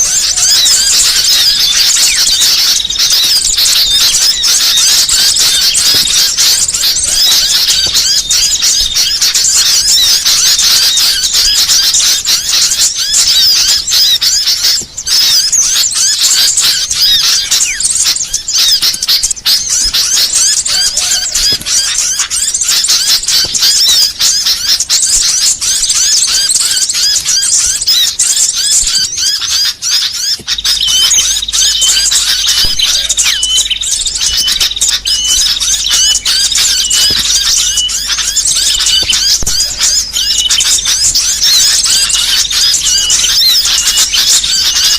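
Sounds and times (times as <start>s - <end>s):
many songbirds chirping: 0.0s - 44.9s.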